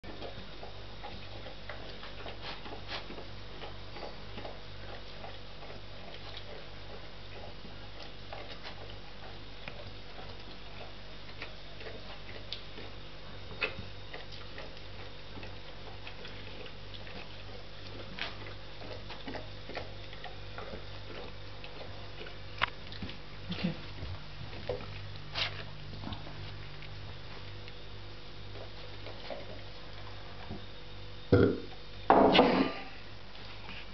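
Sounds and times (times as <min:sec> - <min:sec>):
dog crunching food in bowl: 0:00.0 - 0:27.8
steady low hum: 0:00.0 - 0:33.9.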